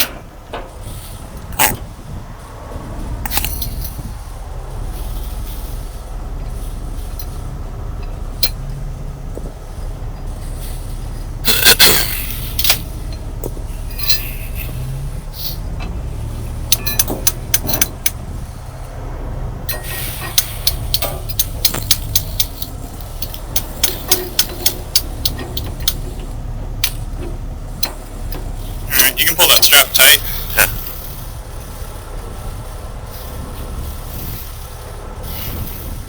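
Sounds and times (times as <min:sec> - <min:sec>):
metallic clicks and clanks: 0:00.0 - 0:01.9, 0:03.2 - 0:19.0, 0:19.6 - 0:36.0
diesel engine idling: 0:00.0 - 0:36.0.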